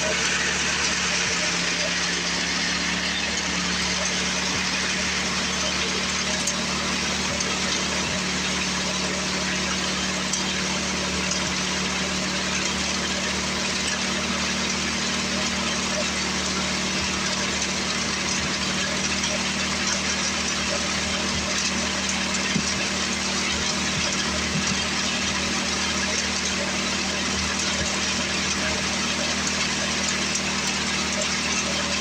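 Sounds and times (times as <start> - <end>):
snowblower engine running: 0.0 - 32.0.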